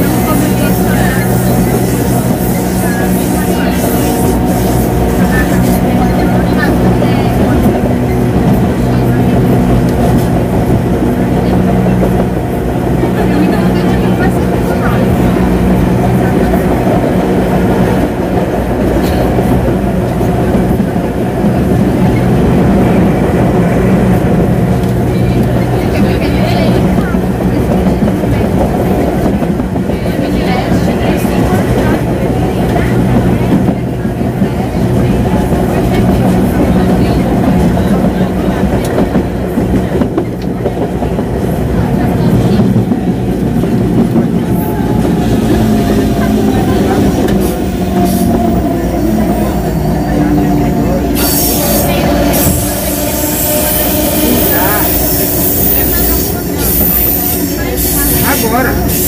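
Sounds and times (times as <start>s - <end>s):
electric train humming: 0.0s - 59.0s.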